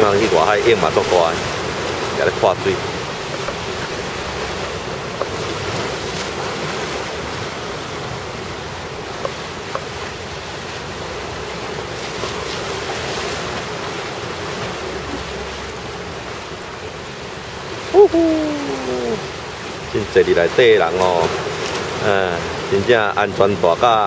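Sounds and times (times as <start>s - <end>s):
rough surf: 0.0s - 24.0s.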